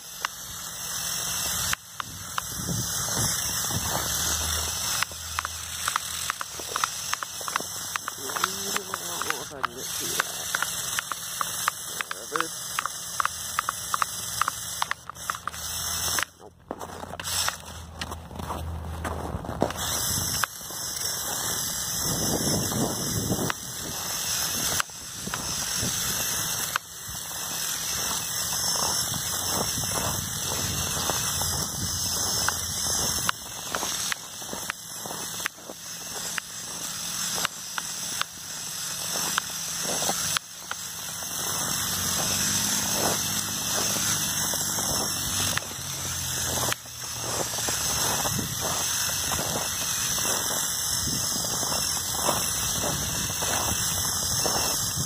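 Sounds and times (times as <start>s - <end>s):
toy electric motors whining: 0.0s - 55.0s
tracks and gears clicking: 0.0s - 55.0s.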